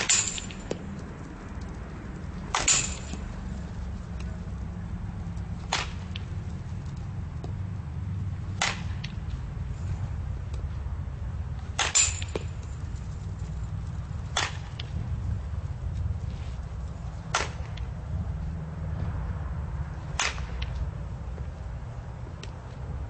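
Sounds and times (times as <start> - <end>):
bat hitting softballs: 0.0 - 18.2, 19.9 - 22.6.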